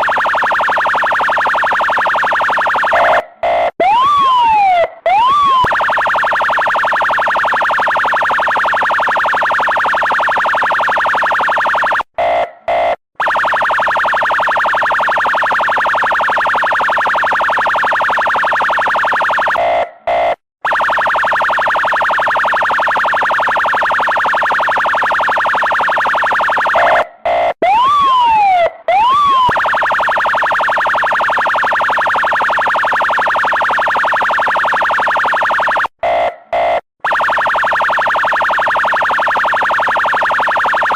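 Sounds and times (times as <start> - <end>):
police siren yelping: 0.0 - 40.9
siren whoops: 0.0 - 40.9.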